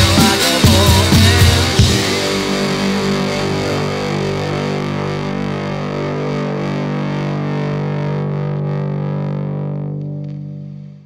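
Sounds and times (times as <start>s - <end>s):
distorted electric guitar chord: 0.0s - 11.0s.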